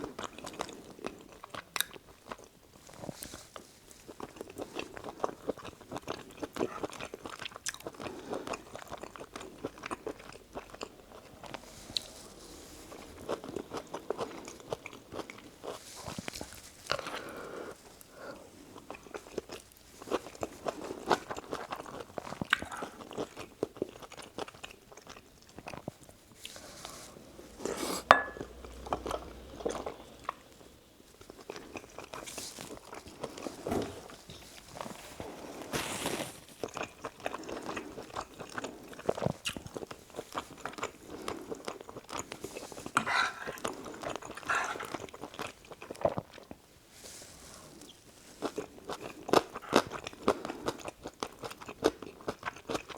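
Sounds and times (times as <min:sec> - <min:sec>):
close chewing and biting: 0:00.0 - 0:52.9.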